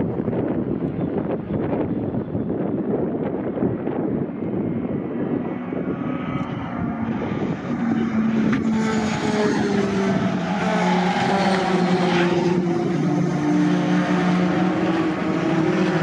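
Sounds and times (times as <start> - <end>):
racing truck engines droning: 0.0 - 16.0.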